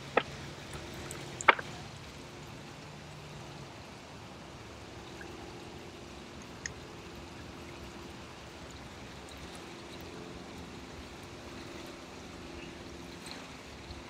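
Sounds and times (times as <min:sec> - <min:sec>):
lake water rippling at shore: 0:00.0 - 0:14.0.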